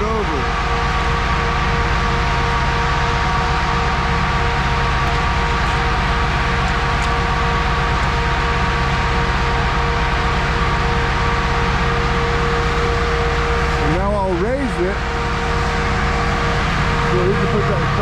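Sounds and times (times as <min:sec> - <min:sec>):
constant machine whine: 0:00.0 - 0:18.0
farm machinery engine rumble: 0:00.0 - 0:18.0.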